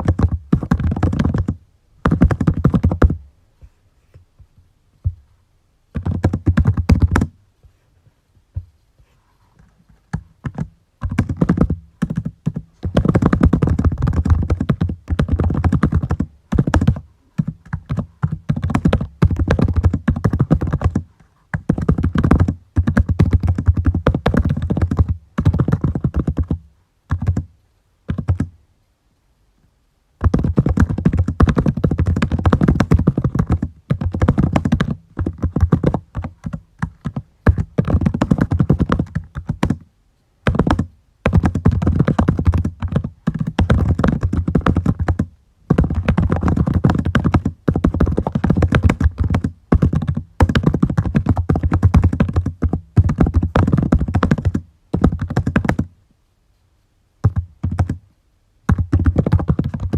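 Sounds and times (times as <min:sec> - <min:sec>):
computer keyboard typing: 0:00.0 - 0:03.1, 0:06.0 - 0:07.3, 0:10.1 - 0:27.5, 0:28.1 - 0:28.5, 0:30.2 - 0:39.8, 0:40.5 - 0:55.8, 0:57.2 - 0:58.0, 0:58.7 - 0:59.9.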